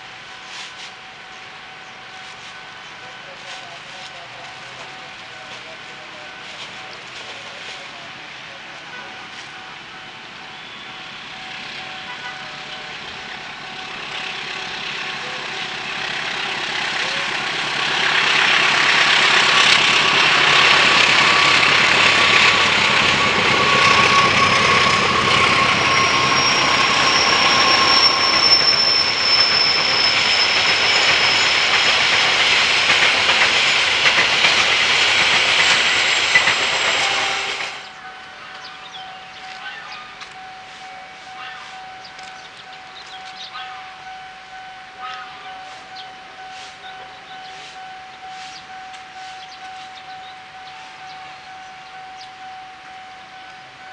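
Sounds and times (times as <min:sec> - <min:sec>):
train wheels rumbling on track: 0:00.0 - 0:53.9
high whine: 0:09.3 - 0:53.9.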